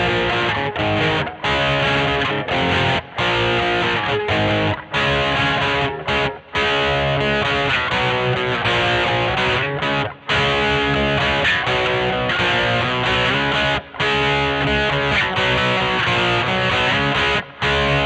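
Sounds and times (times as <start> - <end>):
electric guitar strummed chords: 0.0 - 18.0.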